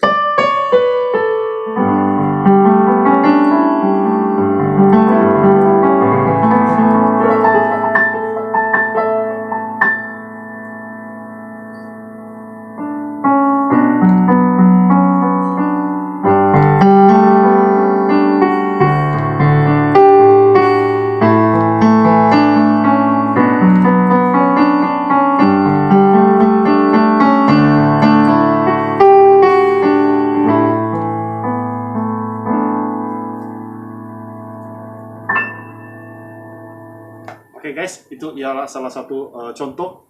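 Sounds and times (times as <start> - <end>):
keyboard playing piano chords: 0.0 - 38.3.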